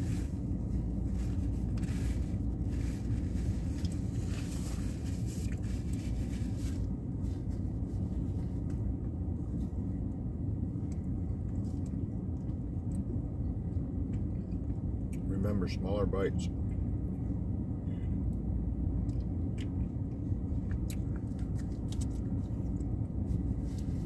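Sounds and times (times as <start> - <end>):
low vehicle rumble: 0.0 - 24.0.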